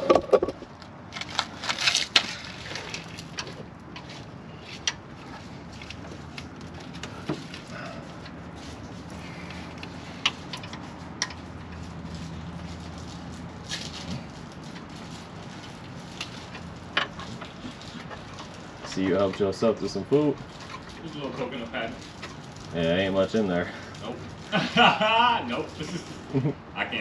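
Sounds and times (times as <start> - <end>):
rustling: 0.0 - 26.4.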